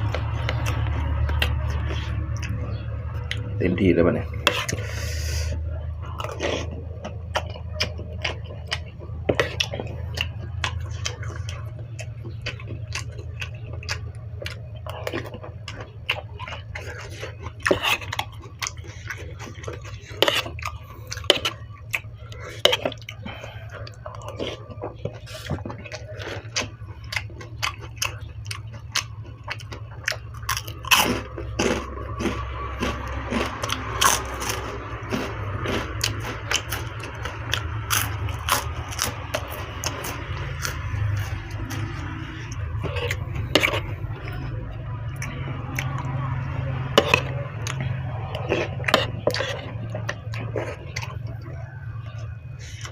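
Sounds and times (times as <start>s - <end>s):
chewing and biting: 0.0s - 52.9s
steady low hum: 0.0s - 52.9s.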